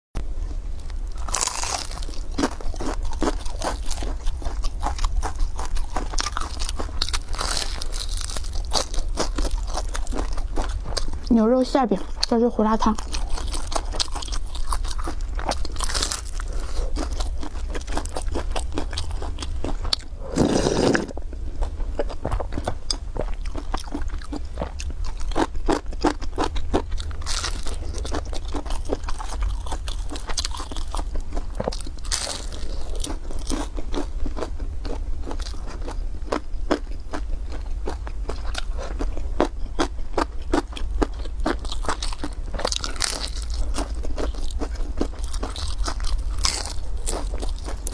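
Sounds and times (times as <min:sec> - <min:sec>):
steady low hum: 0:00.2 - 0:47.9
crunchy chewing: 0:00.5 - 0:11.4, 0:12.0 - 0:47.9.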